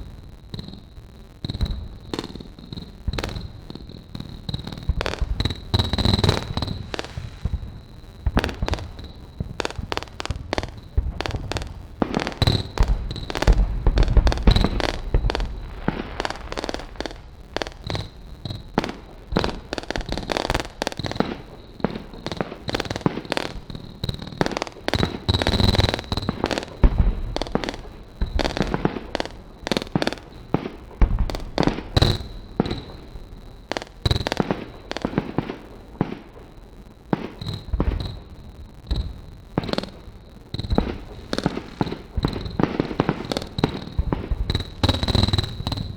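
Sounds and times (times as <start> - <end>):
fireworks crackling and popping: 0.0 - 45.9.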